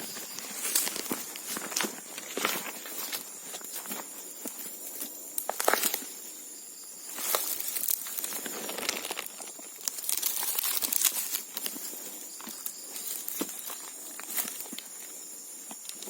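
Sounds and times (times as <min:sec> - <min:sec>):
high insect drone: 0:00.0 - 0:16.0
dry vegetation rustling and snapping: 0:00.1 - 0:06.1, 0:07.1 - 0:16.0.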